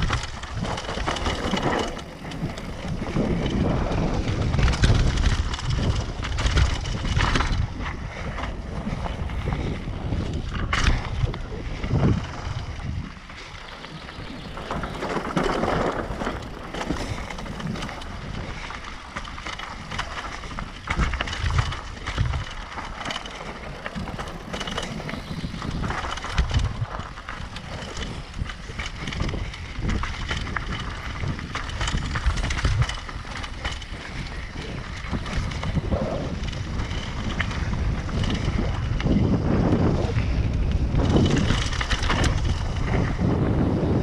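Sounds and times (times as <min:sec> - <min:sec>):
bike rattling: 0:00.0 - 0:44.0
tyres on loose dirt and gravel: 0:00.0 - 0:44.0.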